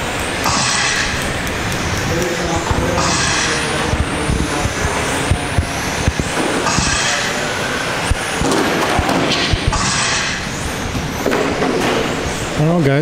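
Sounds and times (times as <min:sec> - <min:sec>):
venue background noise: 0:00.0 - 0:13.0
sharp knocks: 0:00.4 - 0:07.3, 0:08.1 - 0:12.2.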